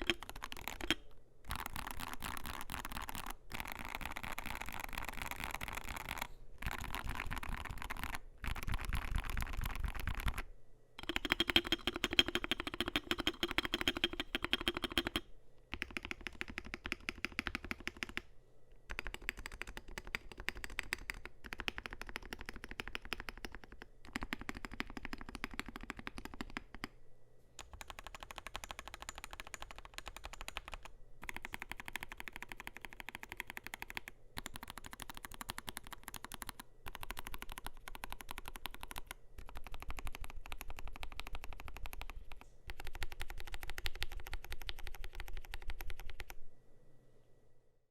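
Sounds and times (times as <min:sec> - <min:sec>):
fast keyboard typing: 0:00.0 - 0:18.2, 0:18.9 - 0:26.9, 0:27.6 - 0:46.4.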